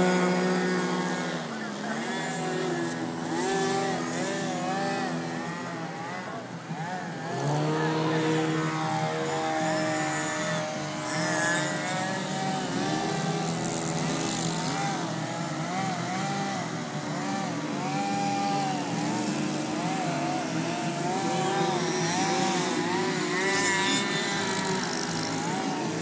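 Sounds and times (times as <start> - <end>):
model plane engines droning: 0.0 - 26.0.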